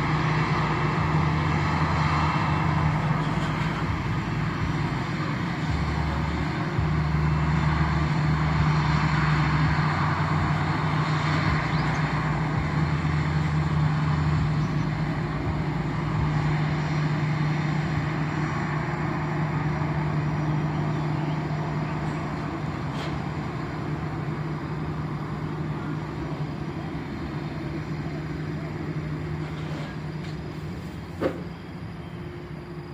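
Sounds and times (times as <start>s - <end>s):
airliner engines humming: 0.0s - 32.9s.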